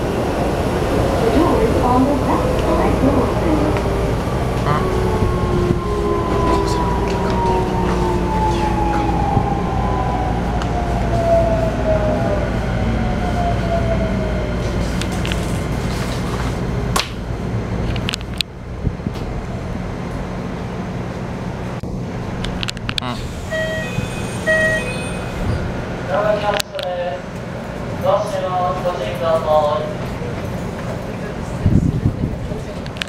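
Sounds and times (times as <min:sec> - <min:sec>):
train wheel rumble: 0:00.0 - 0:33.0.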